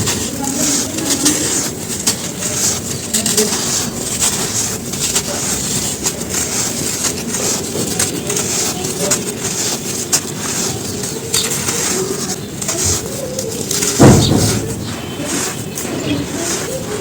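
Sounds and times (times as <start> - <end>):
charcoal ash crumbling and crunching: 0.0 - 17.0.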